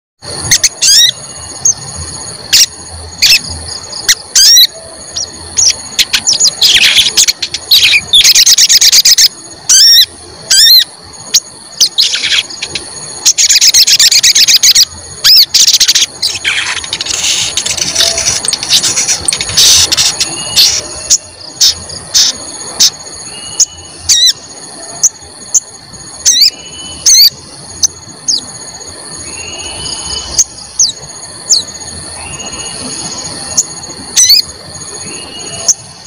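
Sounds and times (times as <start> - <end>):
thin high tone: 0.2 - 36.0
bird whistled calls: 0.4 - 1.8, 2.5 - 28.5, 29.2 - 35.9
bird trilling bursts: 0.4 - 28.6, 29.2 - 35.8.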